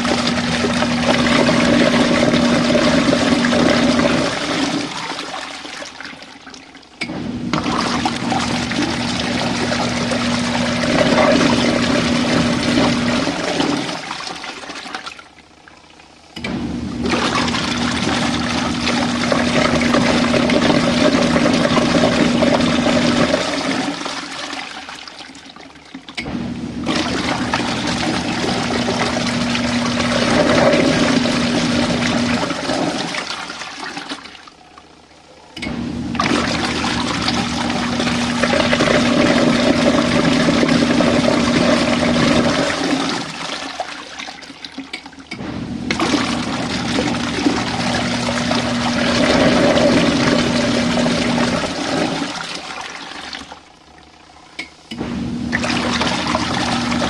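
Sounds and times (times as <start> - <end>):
washing machine motor hum: 0.0 - 57.0
water churning and sloshing: 0.0 - 57.0.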